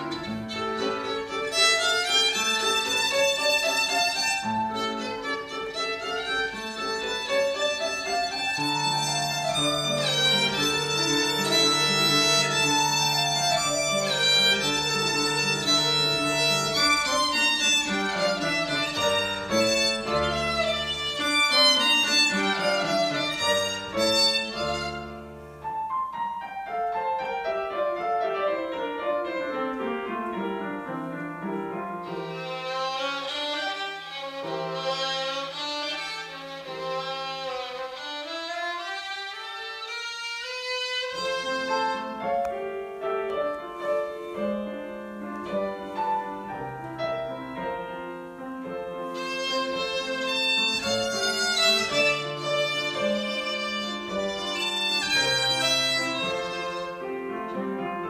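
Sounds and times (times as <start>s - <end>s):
piano chords: 0.0s - 58.0s
violin melody: 0.0s - 58.0s.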